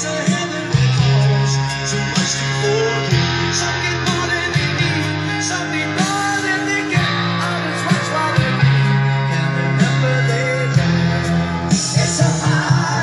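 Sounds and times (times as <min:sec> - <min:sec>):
music with guitar and singing: 0:00.0 - 0:13.0.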